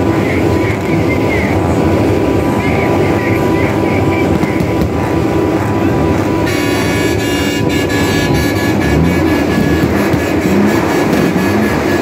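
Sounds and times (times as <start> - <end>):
horn sounding a chord: 0.0 - 12.0
truck engines running: 0.0 - 12.0.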